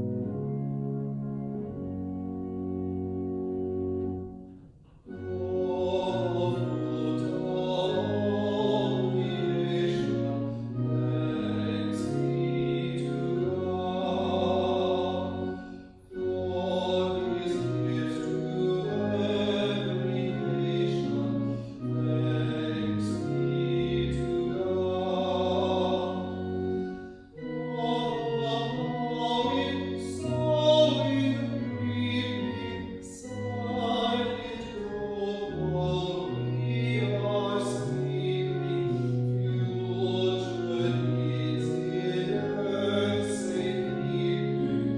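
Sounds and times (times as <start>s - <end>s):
voices singing church music: 4.9s - 44.9s.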